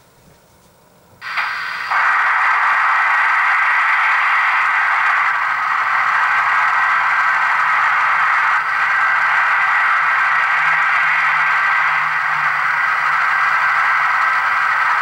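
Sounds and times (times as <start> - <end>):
diesel engine drone from speaker: 1.2 - 15.0.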